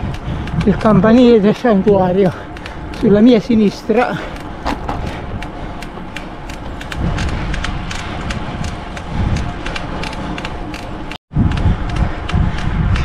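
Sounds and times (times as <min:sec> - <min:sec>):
bicycle clicks and ticks: 0:00.0 - 0:13.0
wind rumble on microphone: 0:00.0 - 0:13.0.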